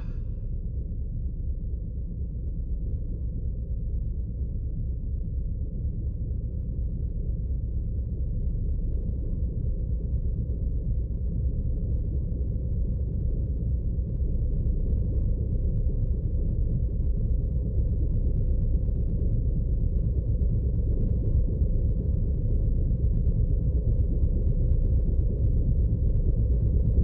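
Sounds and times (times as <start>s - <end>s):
low rumbling drone: 0.0s - 27.0s.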